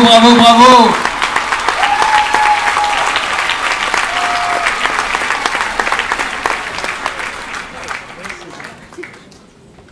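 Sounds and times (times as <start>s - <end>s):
audience applauding: 0.5s - 9.5s.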